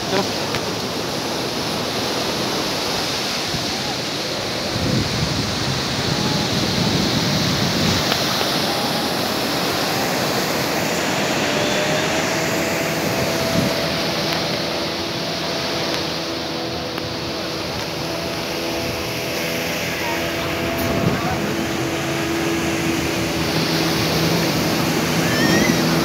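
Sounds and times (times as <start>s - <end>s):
faint engine-like drone: 0.0s - 26.0s
surf washing on sandy beach: 0.0s - 26.0s.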